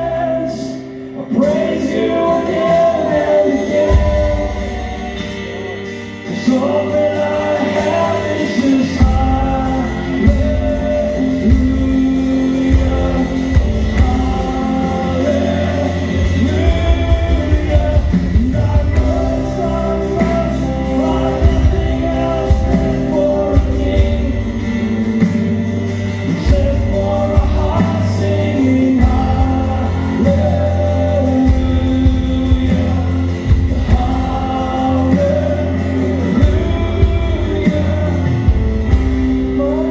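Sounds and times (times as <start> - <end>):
band with heavy bass: 0.0 - 39.9
worship song singing: 0.0 - 39.9.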